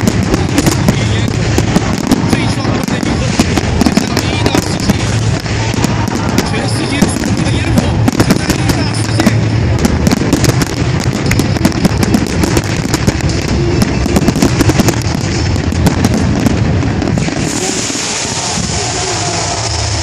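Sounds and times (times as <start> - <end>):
fireworks bangs and crackles: 0.0 - 20.0
fireworks hiss: 0.0 - 20.0.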